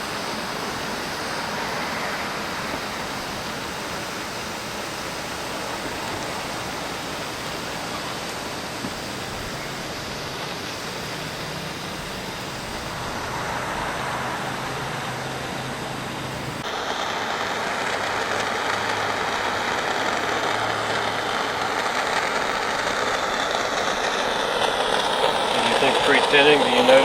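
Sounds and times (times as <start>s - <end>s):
torch flame hissing: 0.0s - 27.0s.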